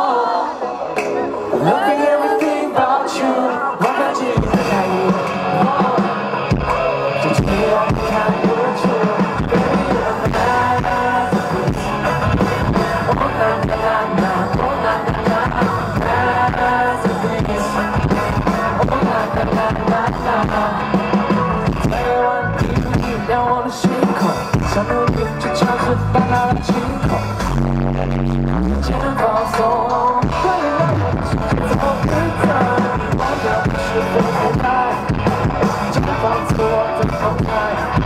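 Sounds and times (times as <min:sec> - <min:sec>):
drums: 0:00.0 - 0:02.9, 0:03.6 - 0:38.0
live pop-rock band: 0:00.0 - 0:38.0
man singing into microphone: 0:00.0 - 0:38.0.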